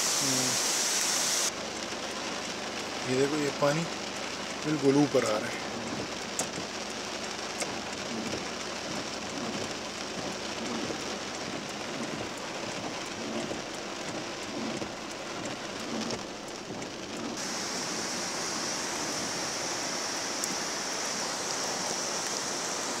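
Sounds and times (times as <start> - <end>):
heavy rain on a car: 0.0 - 23.0.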